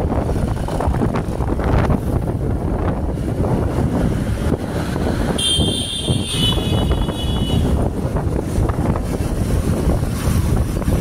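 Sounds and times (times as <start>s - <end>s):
engine and traffic rumble: 0.0s - 11.0s
wind buffeting microphone: 0.0s - 11.0s.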